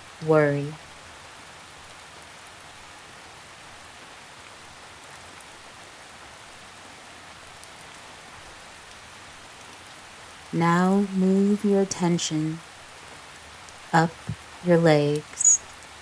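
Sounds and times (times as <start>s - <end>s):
rain pattering on leaves: 0.8s - 11.5s, 12.6s - 16.0s.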